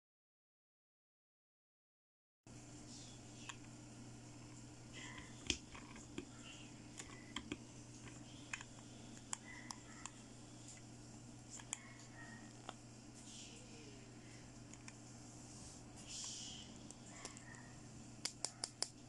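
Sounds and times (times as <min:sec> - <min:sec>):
steady low hum: 0:02.5 - 0:19.0.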